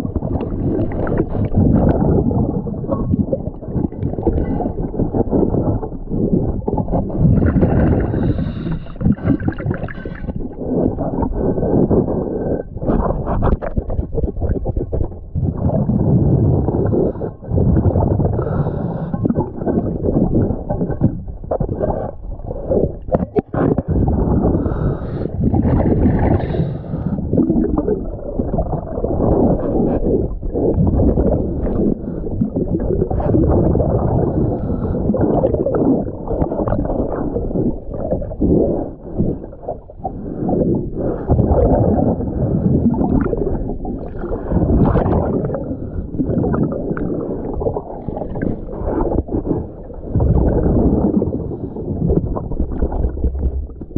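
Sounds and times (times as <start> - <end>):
underwater bubbles gurgling: 0.0 - 53.9.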